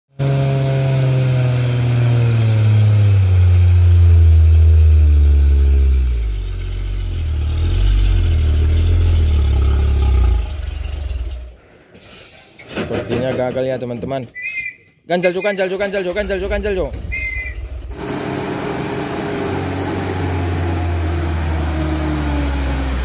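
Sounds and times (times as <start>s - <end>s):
truck engine labouring uphill: 0.1s - 11.6s, 15.5s - 23.0s.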